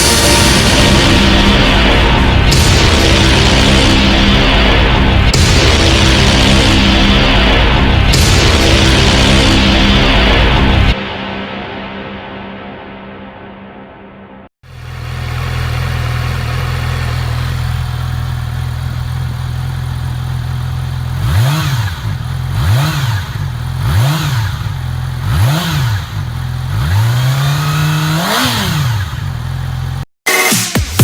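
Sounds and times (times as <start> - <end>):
motorcycle engine idling and revving: 0.0 - 11.0, 14.6 - 30.1.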